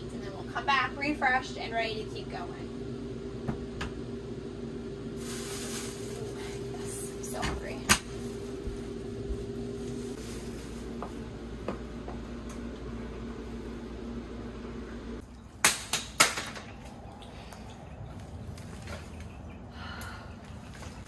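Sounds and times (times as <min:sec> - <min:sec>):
appliance hum: 0:00.0 - 0:21.0.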